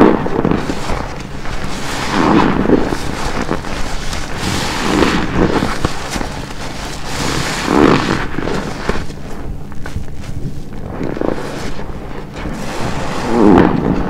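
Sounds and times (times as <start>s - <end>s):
wet sponge squelching: 0.0s - 14.0s.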